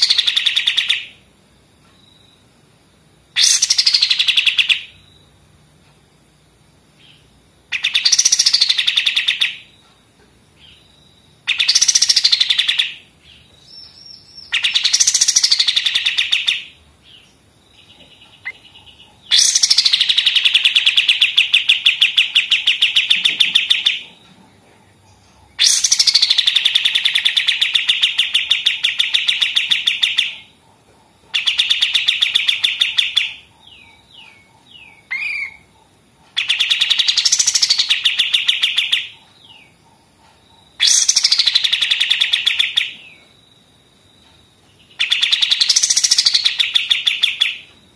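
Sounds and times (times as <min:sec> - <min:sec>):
songbird rattling song: 0:00.0 - 0:43.5, 0:44.1 - 0:47.9.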